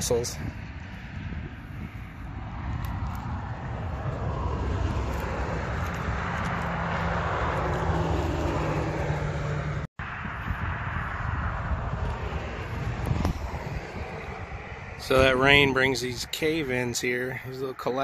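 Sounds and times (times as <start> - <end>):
wind rumbling on microphone: 0.0 - 17.4
vehicle passing: 0.3 - 17.6.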